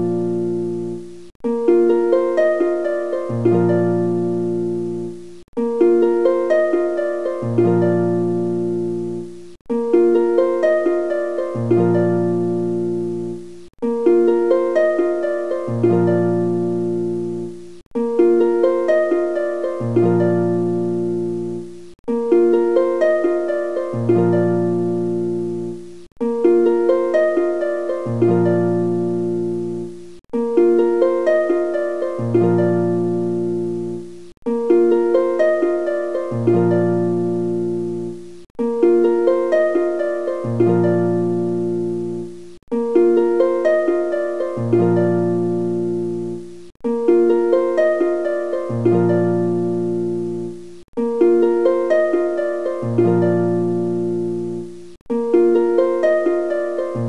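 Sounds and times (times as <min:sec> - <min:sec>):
gently plucked strings music: 0:00.0 - 0:57.0.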